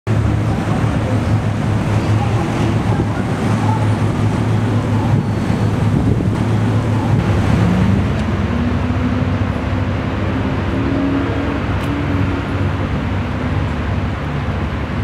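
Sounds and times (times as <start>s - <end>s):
road traffic rumble: 0.1s - 15.0s.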